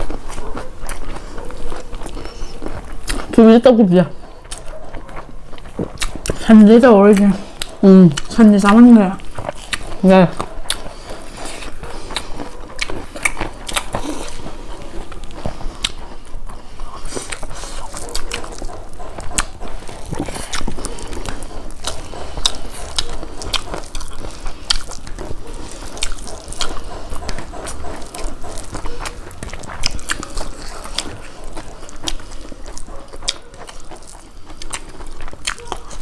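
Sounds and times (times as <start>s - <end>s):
wet chewing and lip smacks: 0.0s - 36.0s.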